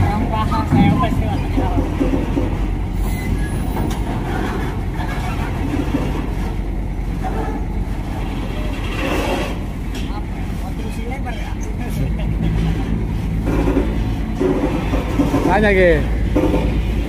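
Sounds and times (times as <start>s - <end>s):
diesel engines rumbling: 0.0s - 17.0s.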